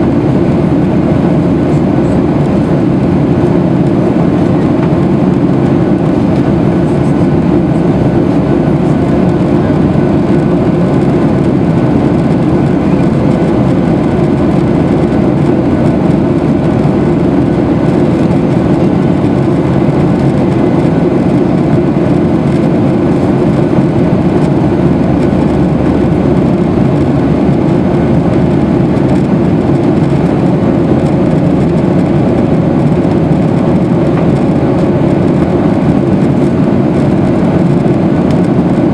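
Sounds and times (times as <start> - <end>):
airplane cabin engine rumble: 0.0 - 38.9
faint steady engine tones: 0.0 - 38.9.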